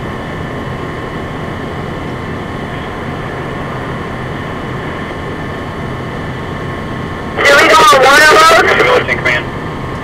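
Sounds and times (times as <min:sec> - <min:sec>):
fire engine running: 0:00.0 - 0:10.0.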